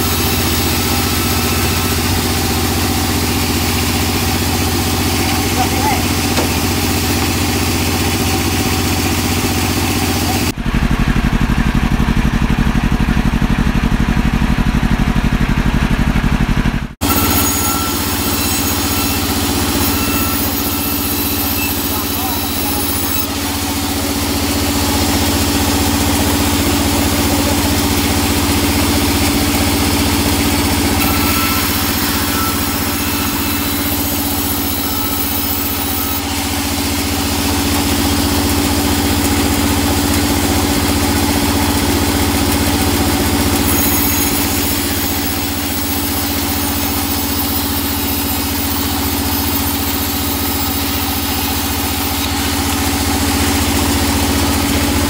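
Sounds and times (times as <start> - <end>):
saw blade cutting wood: 0.0 - 10.6, 17.0 - 55.0
band saw motor hum: 0.0 - 55.0.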